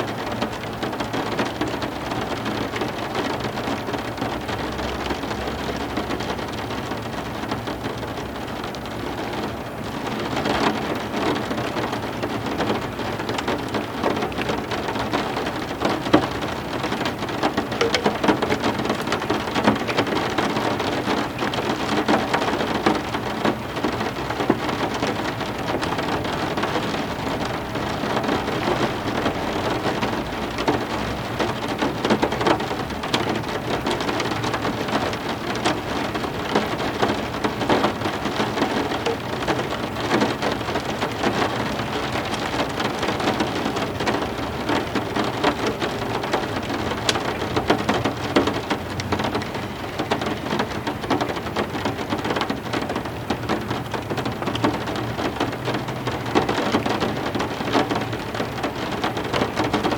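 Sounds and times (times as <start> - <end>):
heavy rain falling: 0.0 - 59.9
raindrops striking a surface: 0.0 - 59.9.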